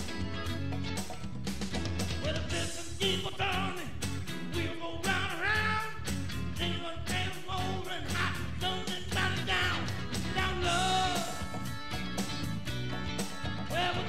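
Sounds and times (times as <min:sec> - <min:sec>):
rock band music: 0:00.0 - 0:14.0
steady drum beat: 0:00.0 - 0:14.0.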